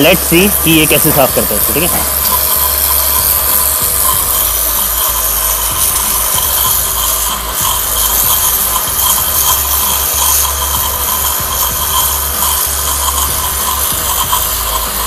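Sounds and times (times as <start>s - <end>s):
pressure washer motor humming: 0.0s - 15.0s
water jet hissing: 0.0s - 15.0s.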